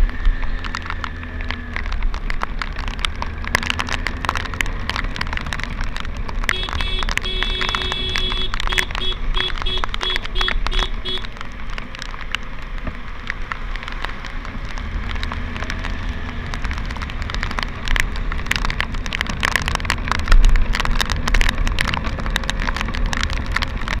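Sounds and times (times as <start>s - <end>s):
motorcycle engine and wind rumble: 0.0s - 24.0s
raindrops ticking: 0.0s - 24.0s.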